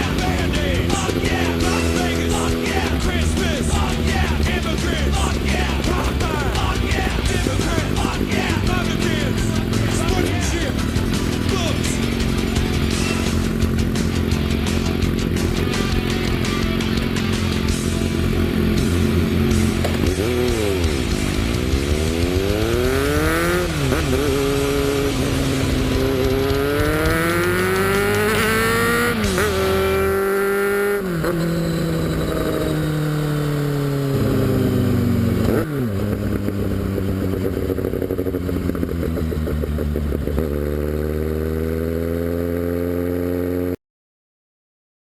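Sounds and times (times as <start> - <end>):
engine revving up and down: 0.0 - 43.8.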